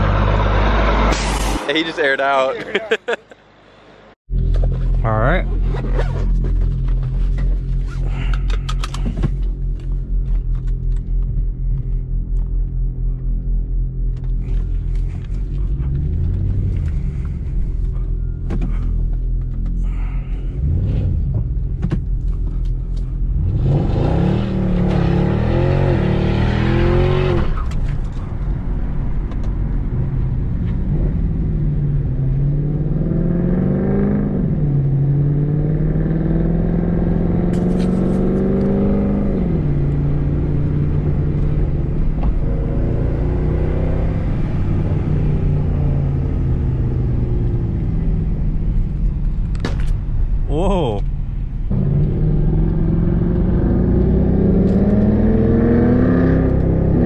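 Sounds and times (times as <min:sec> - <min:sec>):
car engine accelerating from inside: 0:04.3 - 0:49.6, 0:51.6 - 0:57.0.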